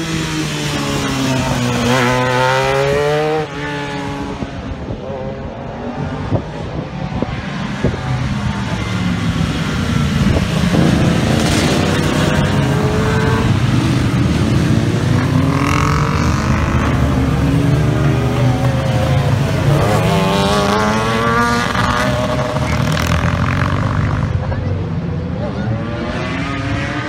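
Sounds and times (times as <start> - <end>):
motorcycles riding past: 0.0 - 27.0.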